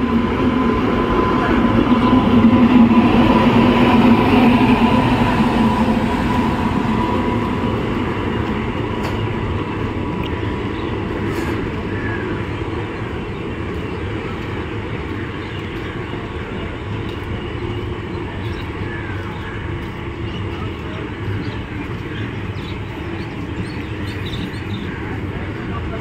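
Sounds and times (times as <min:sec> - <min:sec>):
electric locomotive humming: 0:00.0 - 0:26.0
train wheels clattering on rail: 0:00.0 - 0:26.0.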